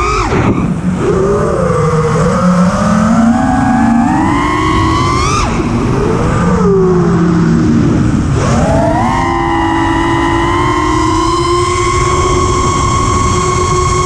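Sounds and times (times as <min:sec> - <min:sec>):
quadcopter motors whining: 0:00.0 - 0:14.0
wind rumble on camera: 0:00.0 - 0:14.0.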